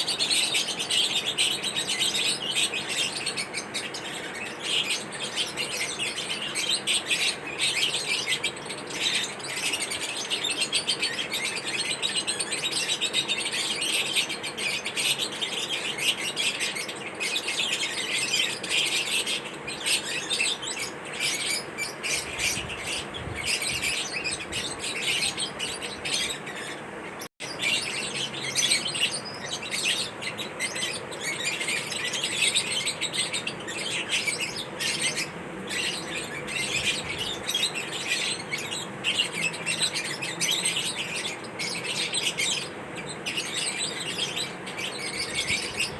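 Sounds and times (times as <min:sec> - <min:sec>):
lovebirds chirping: 0:00.0 - 0:45.9.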